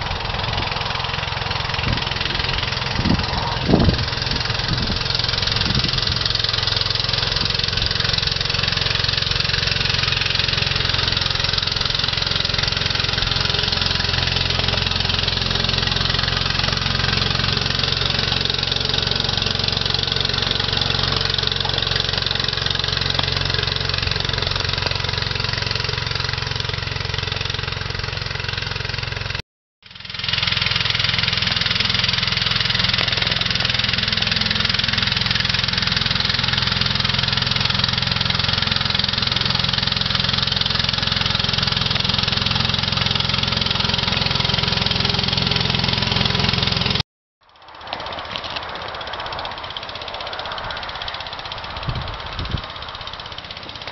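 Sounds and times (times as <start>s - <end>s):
miniature locomotive engine running: 0.0s - 53.9s.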